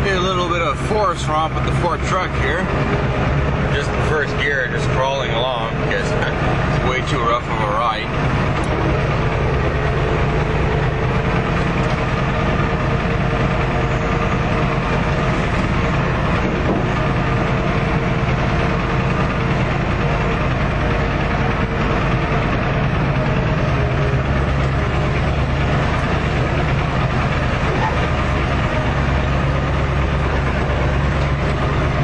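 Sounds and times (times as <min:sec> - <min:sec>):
diesel engine running at low revs: 0:00.0 - 0:32.0.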